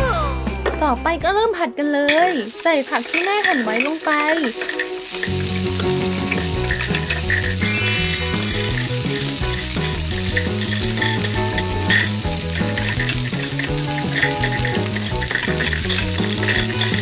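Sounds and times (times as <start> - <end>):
background music with low notes: 0.0 - 17.0
frying sizzle: 2.1 - 17.0
spoon stirring plastic beads: 2.1 - 17.0.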